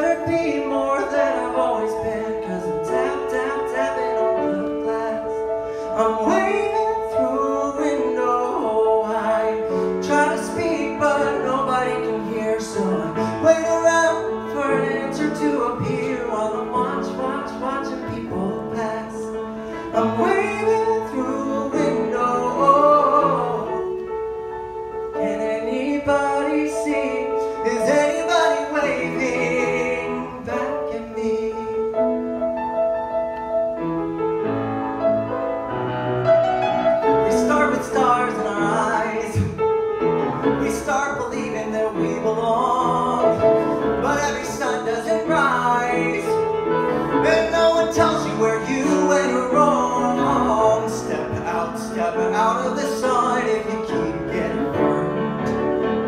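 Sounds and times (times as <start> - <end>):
man singing ballad into microphone: 0.0 - 24.1, 25.1 - 32.3, 37.2 - 56.0
piano accompaniment: 0.0 - 56.0.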